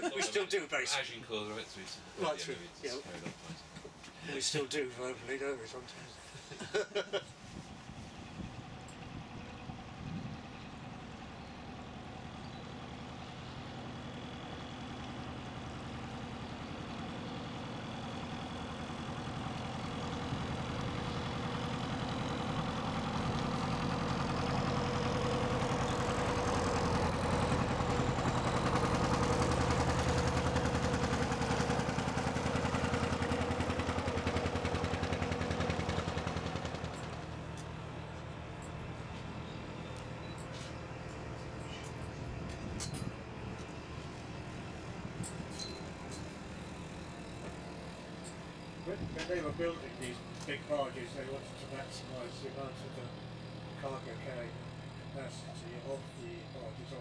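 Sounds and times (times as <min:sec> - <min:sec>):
engine running with fast pulse: 0:07.9 - 0:57.0.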